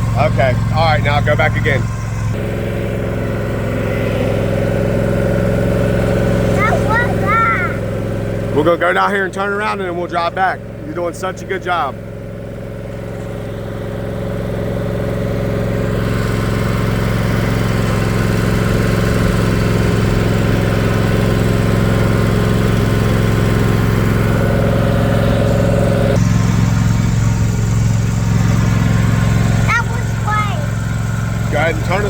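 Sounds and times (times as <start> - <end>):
lawn mower engine running: 0.0 - 32.0.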